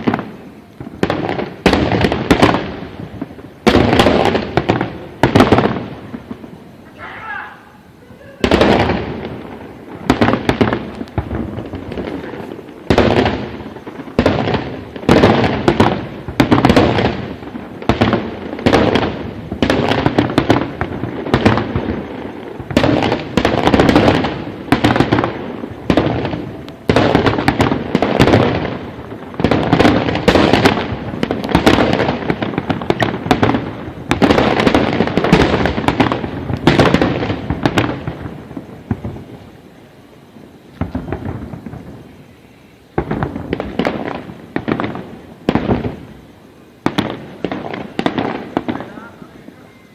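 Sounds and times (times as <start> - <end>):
fireworks booming: 0.0 - 49.9.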